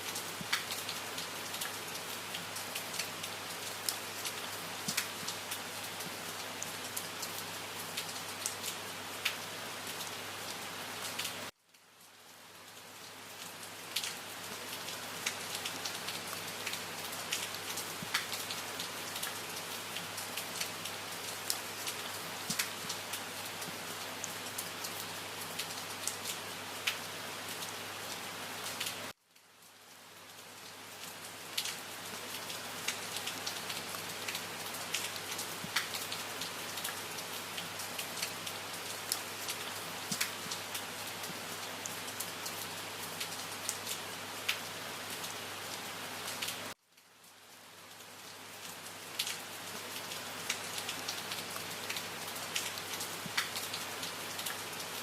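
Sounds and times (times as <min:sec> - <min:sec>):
raindrops ticking on a surface: 0:00.0 - 0:55.0
steady rain hiss: 0:00.0 - 0:55.0.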